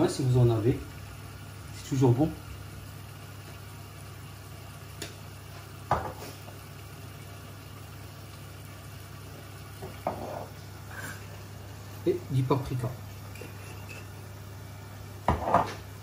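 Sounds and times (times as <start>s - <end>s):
kitchen background hum: 0.0s - 16.0s.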